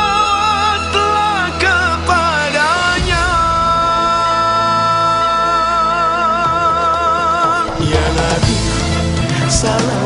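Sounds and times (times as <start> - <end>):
devotional song with held note: 0.0 - 10.0.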